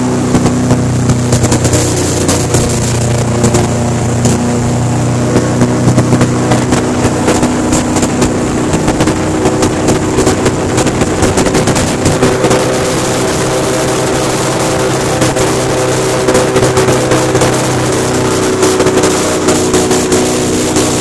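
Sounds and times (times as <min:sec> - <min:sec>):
airboat engine and propeller: 0:00.0 - 0:21.0
wind buffeting microphone: 0:00.0 - 0:21.0.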